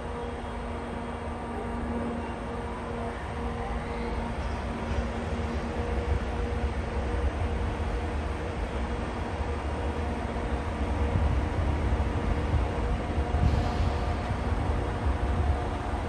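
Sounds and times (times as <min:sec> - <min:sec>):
electric locomotives humming: 0:00.0 - 0:16.0.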